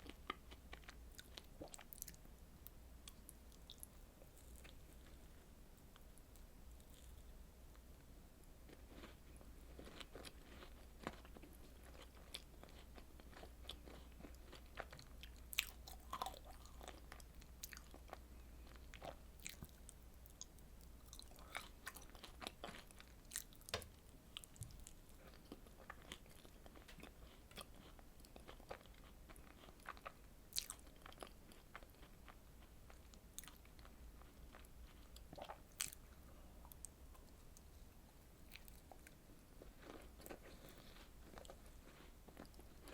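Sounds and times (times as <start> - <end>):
chewing dessert: 0.0 - 2.2, 3.0 - 7.8, 8.6 - 42.9.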